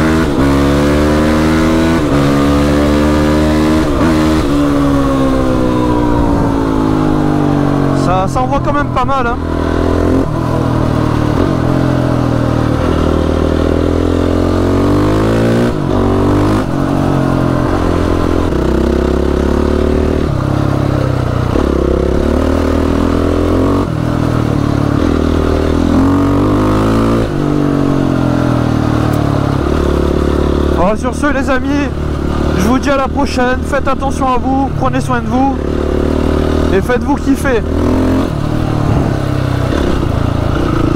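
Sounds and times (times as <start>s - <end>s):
quad bike engine revving loudly: 0.0s - 40.9s.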